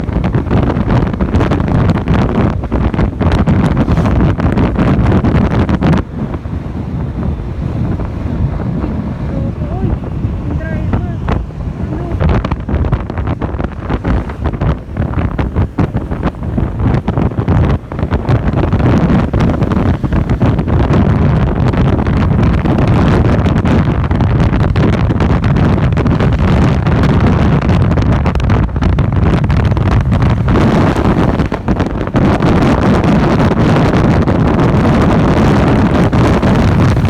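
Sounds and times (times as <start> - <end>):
motorcycle engine: 0.0 - 37.0
road noise: 0.0 - 37.0
wind buffeting microphone: 0.0 - 37.0.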